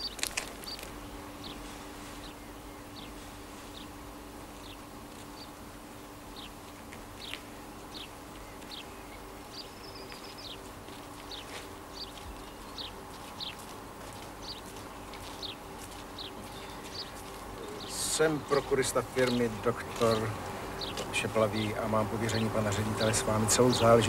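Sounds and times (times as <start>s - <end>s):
bird chirping: 0.0s - 4.0s, 6.3s - 6.6s, 7.2s - 13.6s, 14.4s - 24.0s
faint steady hum: 0.0s - 24.0s.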